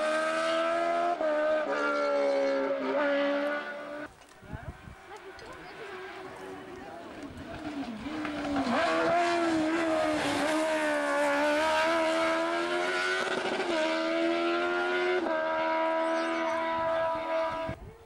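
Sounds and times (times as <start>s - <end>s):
race car engine at full throttle: 0.0s - 17.9s.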